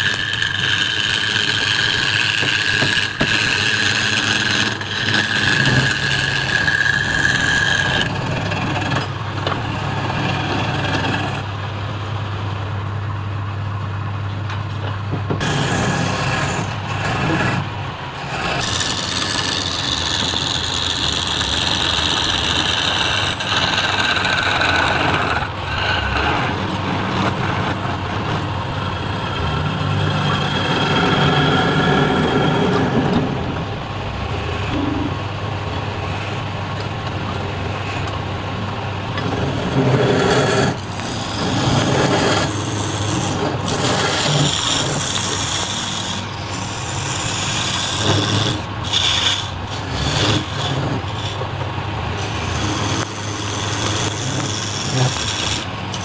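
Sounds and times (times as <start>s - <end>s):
turning tool scraping wood: 0.0s - 11.5s, 15.3s - 33.4s, 34.2s - 35.1s, 35.8s - 36.9s, 39.1s - 56.0s
wood lathe humming: 0.0s - 12.1s, 15.4s - 56.0s.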